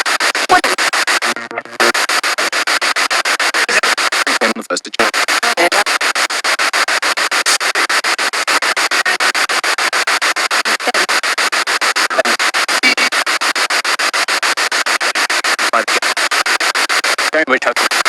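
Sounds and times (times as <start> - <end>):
pulsing radio static: 0.0 - 18.0
snatches of broadcast sound: 0.0 - 18.0.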